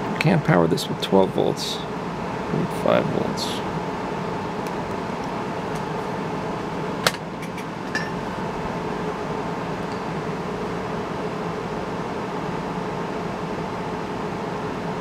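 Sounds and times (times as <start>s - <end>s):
room fans and air conditioning hum: 0.0s - 15.0s.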